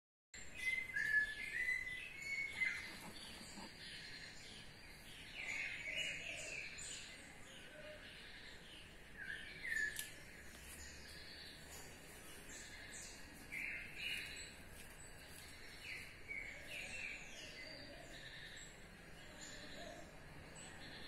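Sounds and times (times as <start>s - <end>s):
birds singing whistled notes: 0.4s - 21.0s.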